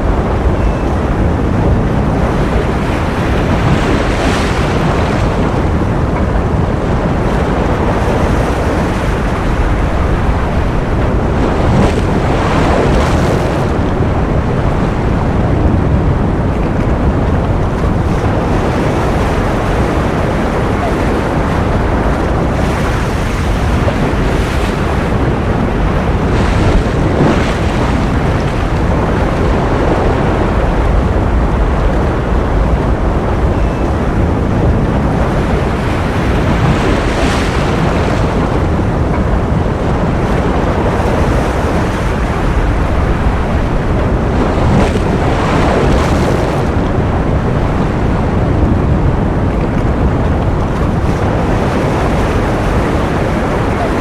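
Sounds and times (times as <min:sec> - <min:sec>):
ocean waves rushing: 0:00.0 - 0:54.0.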